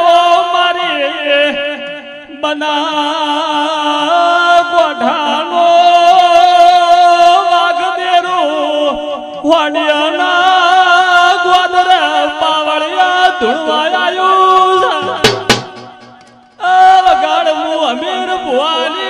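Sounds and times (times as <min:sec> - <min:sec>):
man chanting devotional song: 0:00.0 - 0:15.3, 0:16.6 - 0:19.0.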